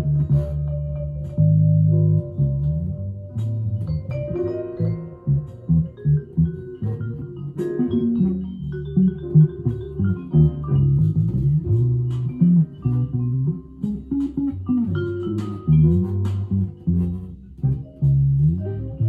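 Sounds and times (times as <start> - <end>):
guitar playing sliding melody: 0.0 - 19.0.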